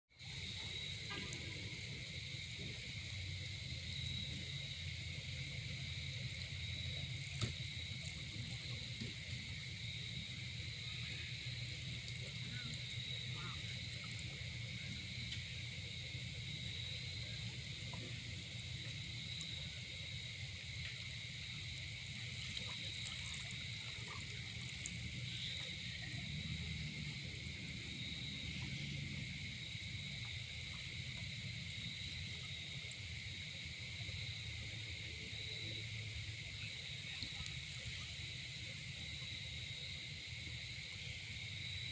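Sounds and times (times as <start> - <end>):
insects trilling: 0.1 - 41.9.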